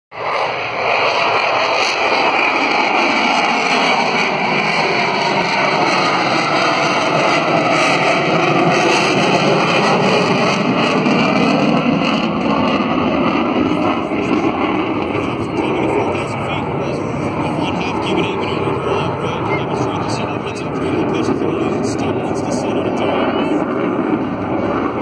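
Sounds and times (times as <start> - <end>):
jet engines roaring overhead: 0.1 - 25.0.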